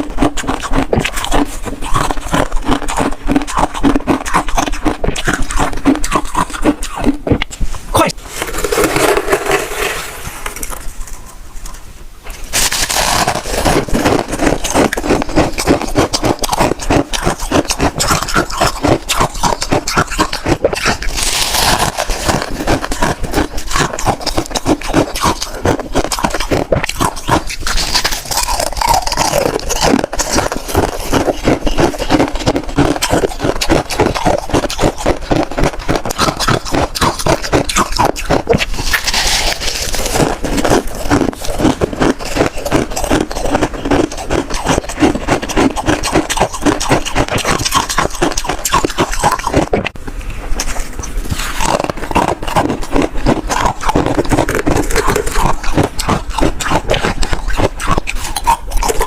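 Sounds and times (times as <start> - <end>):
chewing and crunching frost: 0.0 - 59.0.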